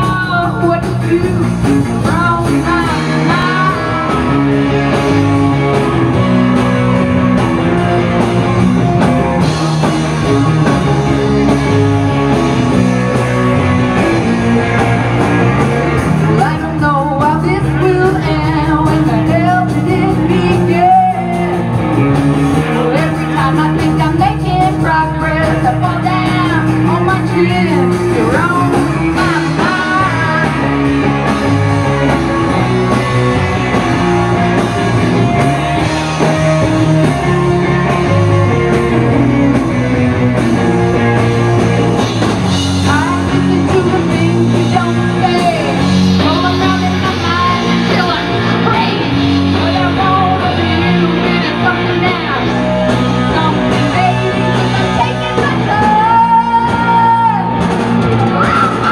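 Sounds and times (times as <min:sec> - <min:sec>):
woman singing lead: 0:00.0 - 0:06.7, 0:15.2 - 0:41.4, 0:42.0 - 0:58.9
electric bass: 0:00.0 - 0:58.9
electric guitar: 0:00.0 - 0:58.9.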